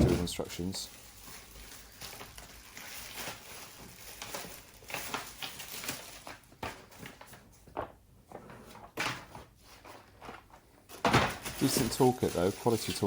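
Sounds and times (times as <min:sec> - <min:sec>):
packaging rustling and clicking: 0:01.0 - 0:13.0.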